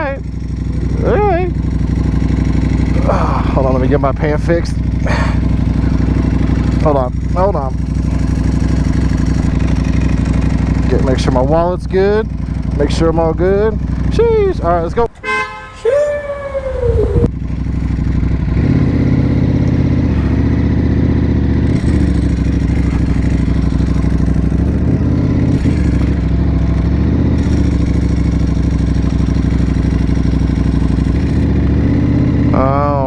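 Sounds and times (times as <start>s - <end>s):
motorcycle engine running: 0.0s - 15.7s, 16.4s - 33.0s.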